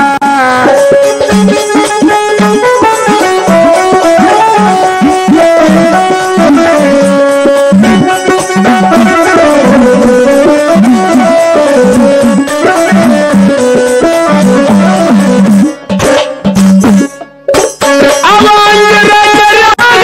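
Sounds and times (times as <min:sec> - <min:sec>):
instrumental folk melody: 0:00.0 - 0:19.4.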